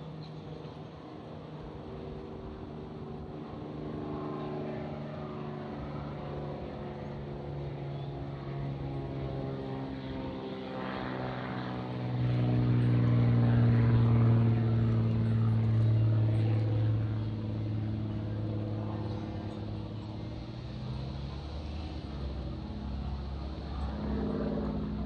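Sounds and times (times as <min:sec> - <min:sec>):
propeller airplane flying over: 0:00.0 - 0:25.0.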